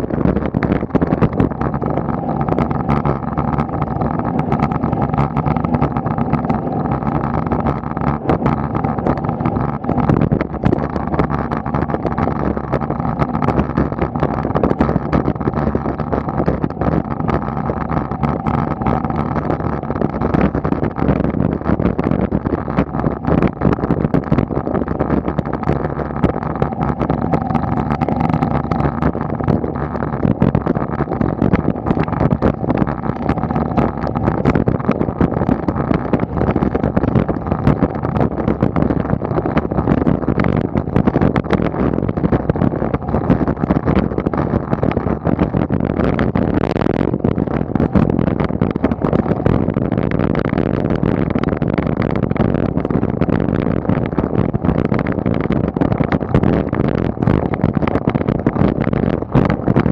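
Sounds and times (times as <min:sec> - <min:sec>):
bicycle road rumble and rattle: 0:00.0 - 0:59.9
small knocks from road vibration: 0:00.0 - 0:59.9.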